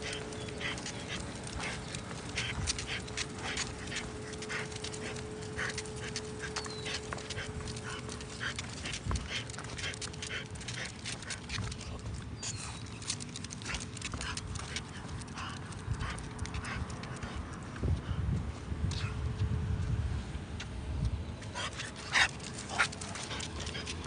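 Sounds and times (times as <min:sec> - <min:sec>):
dog panting: 0:00.0 - 0:17.6, 0:21.5 - 0:24.0.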